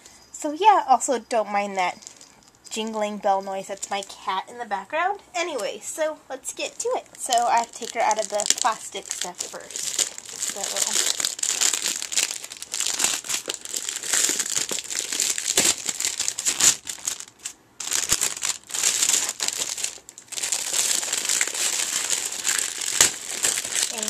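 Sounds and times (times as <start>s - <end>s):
plastic wrapping crinkling: 1.8s - 4.2s, 6.6s - 24.0s.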